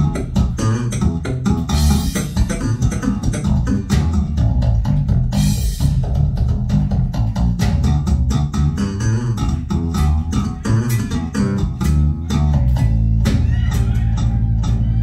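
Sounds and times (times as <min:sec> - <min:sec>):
rock music over loudspeakers: 0:00.0 - 0:15.0.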